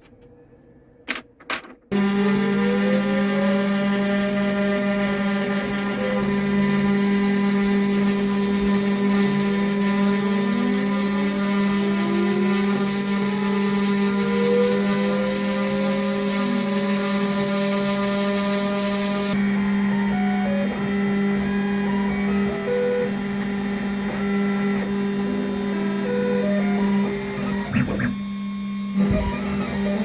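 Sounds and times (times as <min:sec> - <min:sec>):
spindle whine: 0:02.0 - 0:30.0
stepper motors gliding in pitch: 0:02.0 - 0:30.0.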